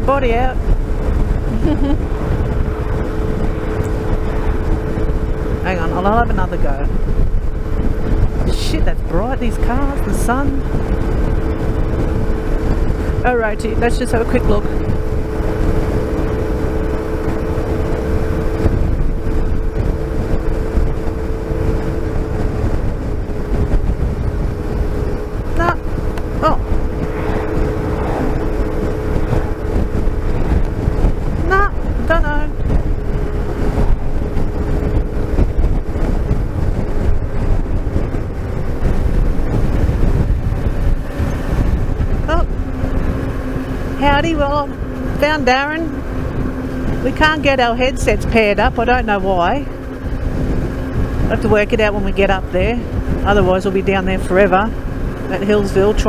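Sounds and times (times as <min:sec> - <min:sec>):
motorcycle engine running: 0:00.0 - 0:56.0
steady hum: 0:00.0 - 0:56.0
wind rushing over microphone: 0:00.0 - 0:56.0.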